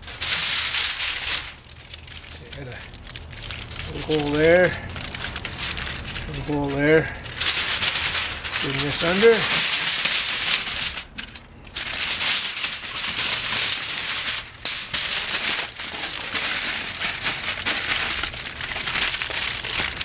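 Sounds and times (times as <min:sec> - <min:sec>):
aluminium foil crinkling: 0:00.0 - 0:20.0.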